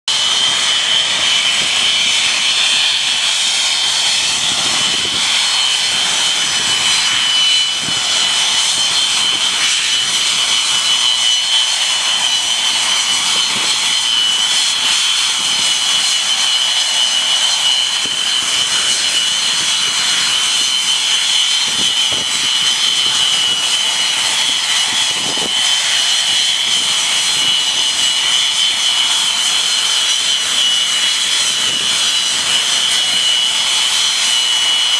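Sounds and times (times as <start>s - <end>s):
jet noise rush: 0.1s - 34.9s
jet turbine whine: 0.1s - 34.9s.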